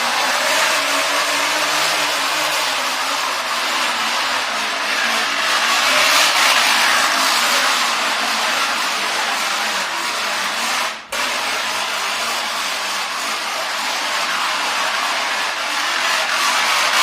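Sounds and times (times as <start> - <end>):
can buzzing on bicycle spokes: 0.0 - 17.0.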